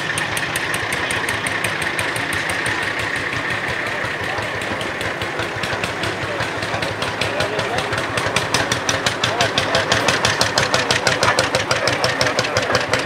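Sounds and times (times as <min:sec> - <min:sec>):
two-stroke engine chugging: 0:00.0 - 0:13.0.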